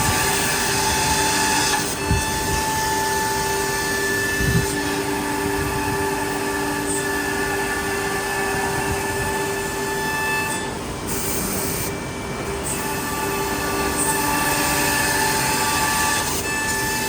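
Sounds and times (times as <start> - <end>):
router machine whine: 0.0 - 17.0.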